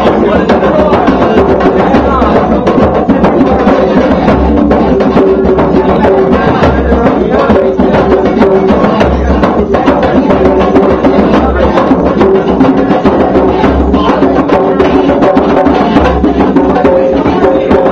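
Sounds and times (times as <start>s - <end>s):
hand drums playing rhythm: 0.0s - 17.9s.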